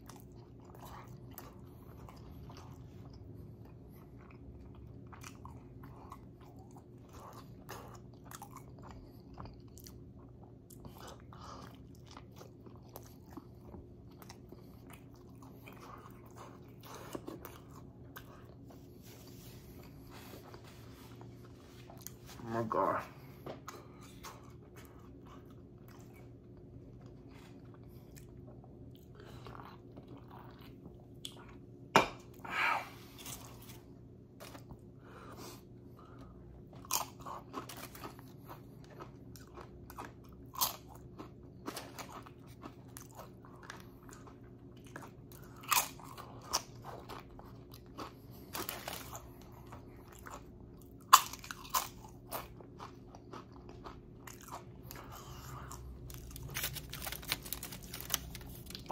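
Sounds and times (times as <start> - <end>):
chewing and crunching chips: 0.0 - 58.9
steady low hum: 0.0 - 58.9.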